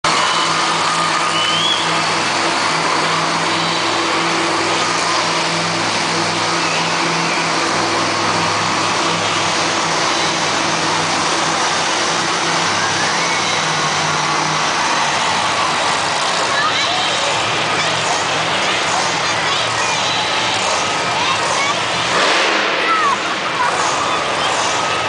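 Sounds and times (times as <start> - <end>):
monster truck engines running: 0.0 - 25.0.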